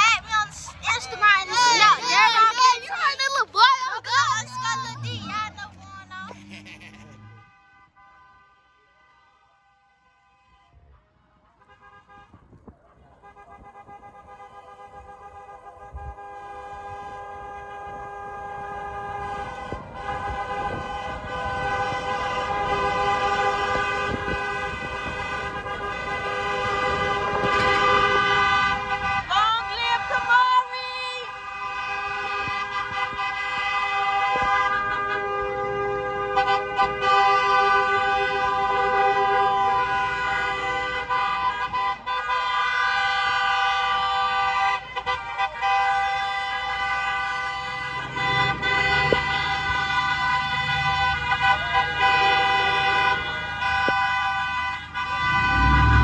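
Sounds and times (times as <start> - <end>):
car horns sounding together: 4.4 - 10.8, 11.6 - 56.0.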